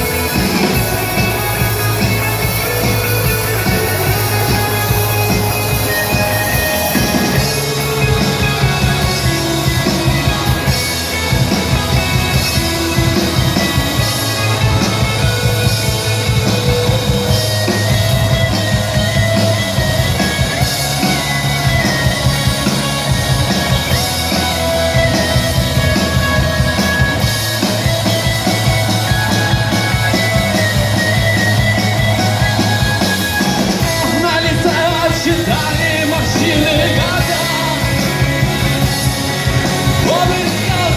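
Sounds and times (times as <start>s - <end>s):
instrumental rock music: 0.0s - 40.9s.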